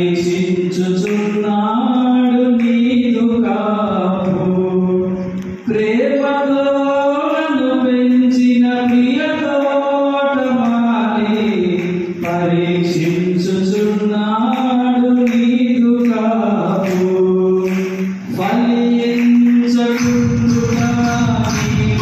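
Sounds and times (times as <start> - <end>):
man singing into a microphone: 0.0 - 22.0.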